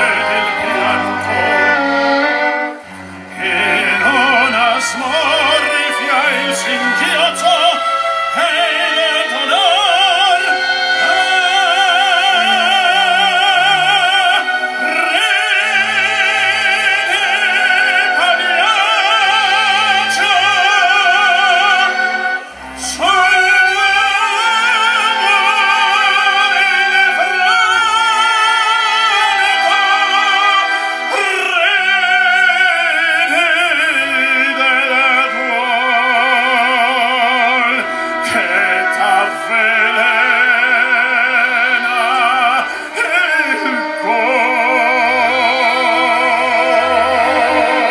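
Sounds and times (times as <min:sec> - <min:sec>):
operatic singing: 0:00.0 - 0:47.9
symphonic ensemble playing: 0:00.0 - 0:47.9.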